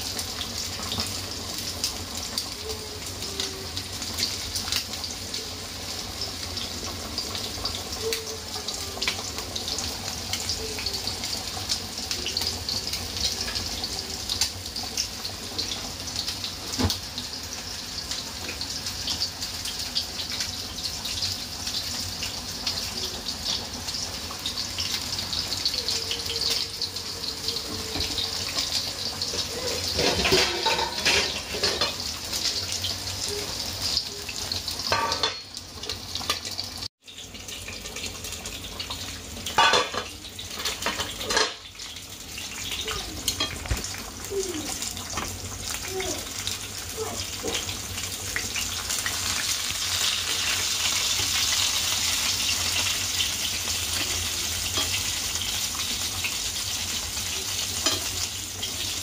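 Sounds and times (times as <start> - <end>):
chicken frying in oil: 0.0 - 59.0.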